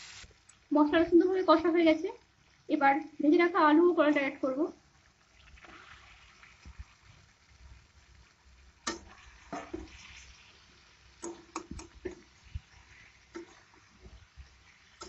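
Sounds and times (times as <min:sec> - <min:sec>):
faint sizzle in wok: 0:00.0 - 0:15.0.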